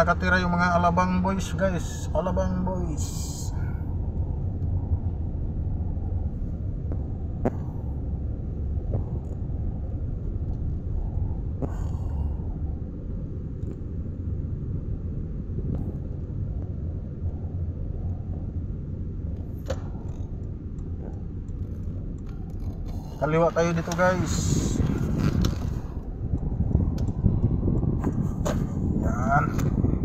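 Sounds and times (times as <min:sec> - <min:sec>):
car driving rumble inside cabin: 0:00.0 - 0:30.0.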